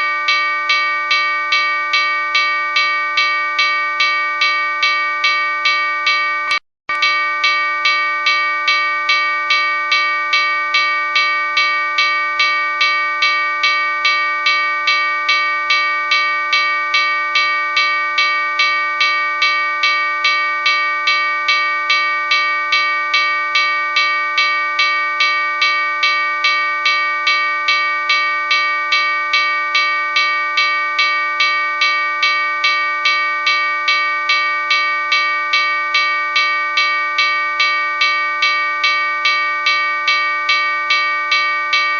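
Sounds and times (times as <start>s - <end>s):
locomotive bell ringing: 0.0s - 41.9s.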